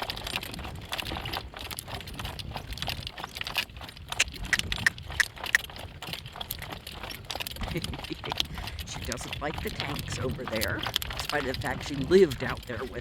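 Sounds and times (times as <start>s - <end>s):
harness fittings jingling: 0.0s - 13.0s
hoofbeats: 0.0s - 13.0s
low wind rumble on microphone: 0.0s - 13.0s.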